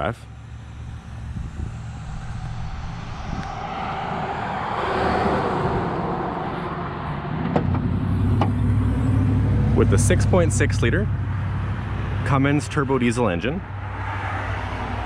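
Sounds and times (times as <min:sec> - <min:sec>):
low engine rumble: 0:00.0 - 0:15.0
vehicle passing on road: 0:00.0 - 0:15.0.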